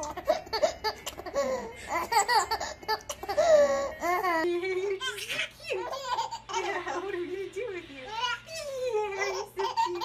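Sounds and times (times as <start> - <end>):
baby laughing and squealing: 0.0 - 4.4, 5.0 - 6.8, 8.1 - 10.0.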